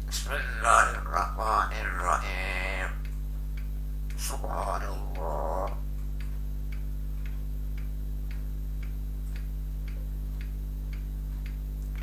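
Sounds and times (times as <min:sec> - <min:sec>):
regular ticking: 0:00.0 - 0:12.0
steady low hum: 0:00.0 - 0:12.0.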